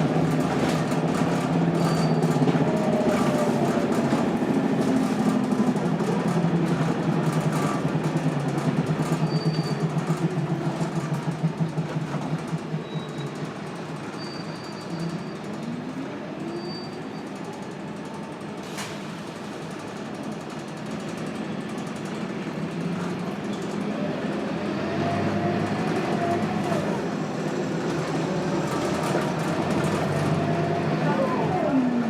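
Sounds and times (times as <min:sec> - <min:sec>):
bus diesel engine pulsing: 0:00.0 - 0:32.0.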